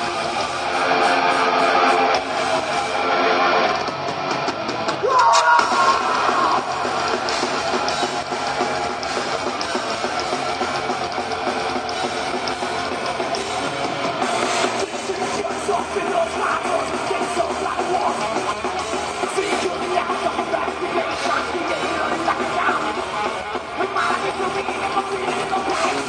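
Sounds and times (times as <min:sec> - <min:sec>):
distorted electric guitars: 0:00.0 - 0:26.0
drum kit: 0:00.0 - 0:26.0
thrash metal band playing: 0:00.0 - 0:26.0.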